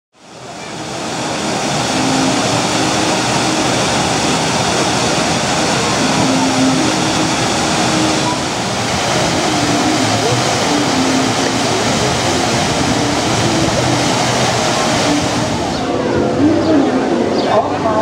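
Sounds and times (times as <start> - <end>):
faint crowd voices: 0.2 - 18.0
water cascading from fountain: 0.2 - 18.0.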